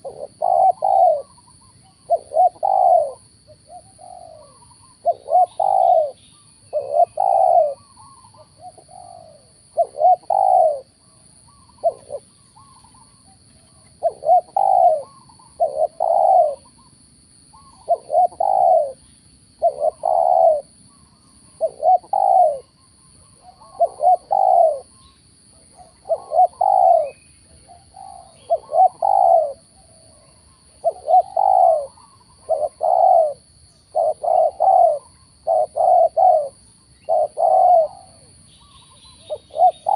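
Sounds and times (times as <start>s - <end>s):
doves cooing: 0.0s - 16.9s, 17.5s - 25.0s, 25.6s - 39.9s.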